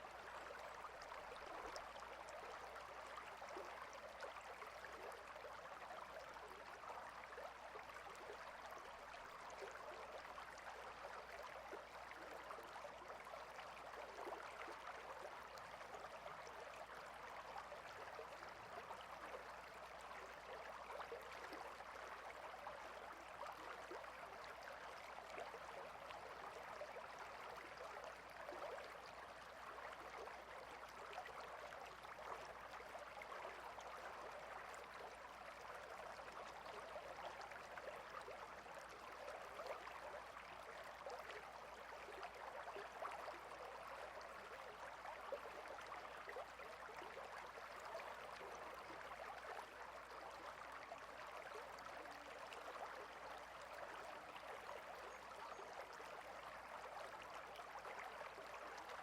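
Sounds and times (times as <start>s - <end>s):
stream water trickling: 0.0s - 59.0s.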